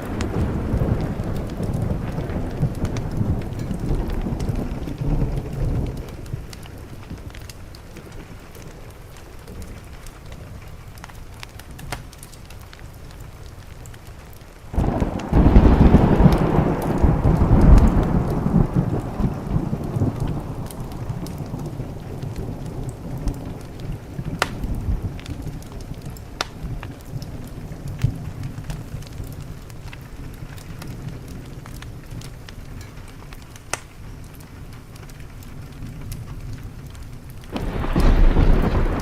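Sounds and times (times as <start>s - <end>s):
steady rain: 0.0s - 39.0s
thunderclap and rumble: 0.0s - 39.0s.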